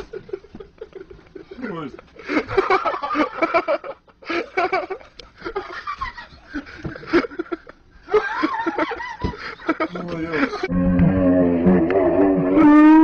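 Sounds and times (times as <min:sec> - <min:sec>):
person laughing and giggling: 0:00.0 - 0:10.7.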